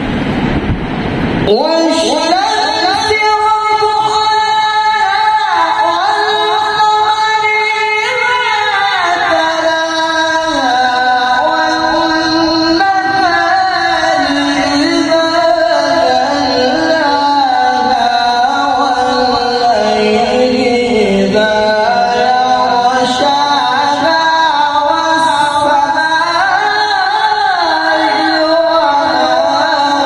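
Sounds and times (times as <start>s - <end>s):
man reciting melodically over loudspeaker: 1.3s - 30.0s.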